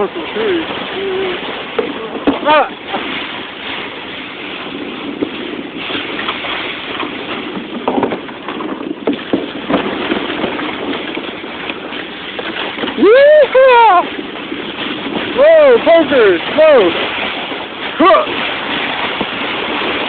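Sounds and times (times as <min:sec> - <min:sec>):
sled scraping over snow: 0:00.0 - 0:20.0
wind buffeting microphone: 0:00.0 - 0:20.0.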